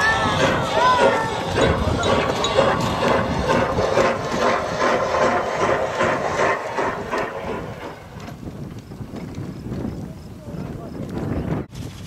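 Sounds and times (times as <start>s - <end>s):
ride-on train chugging hum: 0.0s - 10.2s.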